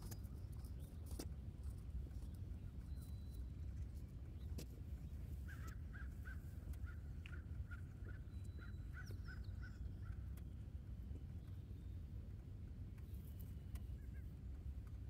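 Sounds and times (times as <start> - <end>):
faint low rumble: 0.0 - 15.0.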